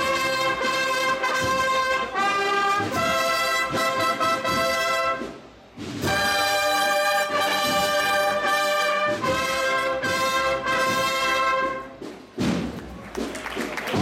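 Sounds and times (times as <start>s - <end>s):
brass band playing slow march: 0.0s - 14.0s.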